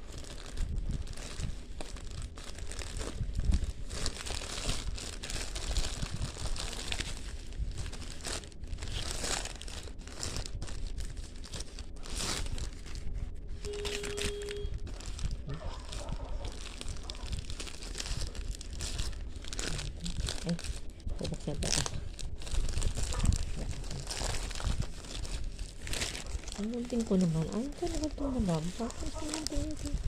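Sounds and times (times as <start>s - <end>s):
plastic package crinkling and tearing: 0.0s - 30.0s.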